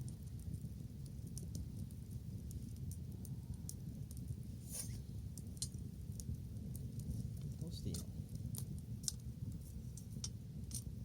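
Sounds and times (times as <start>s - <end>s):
low fire rumble: 0.0s - 11.0s
wood bonfire crackling: 0.0s - 11.0s.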